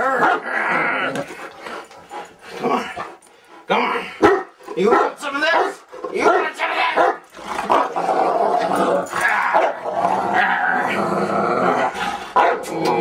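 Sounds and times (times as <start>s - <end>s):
dog play-growling: 0.0s - 4.8s, 7.3s - 13.0s.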